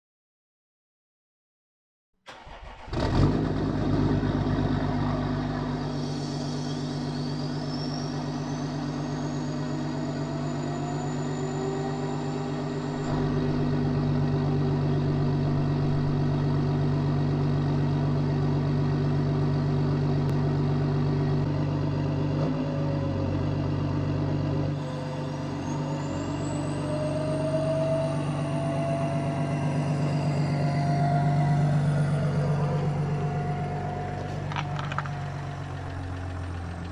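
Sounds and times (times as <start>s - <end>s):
diesel engine starting and idling: 2.3s - 36.9s.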